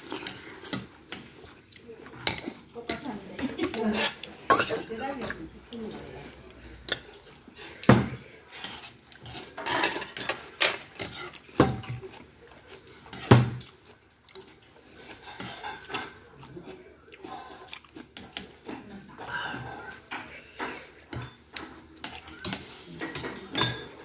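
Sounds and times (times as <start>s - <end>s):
chopsticks and spoons clinking on dishes: 0.0s - 24.0s.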